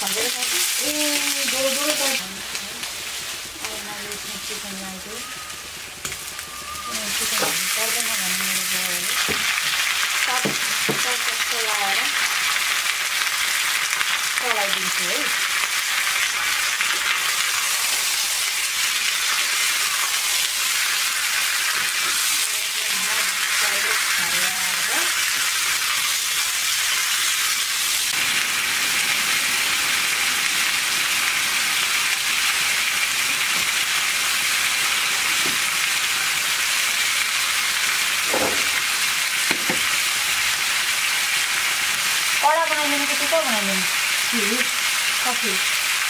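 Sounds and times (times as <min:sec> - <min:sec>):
chicken sizzling in oil: 0:00.0 - 0:46.0.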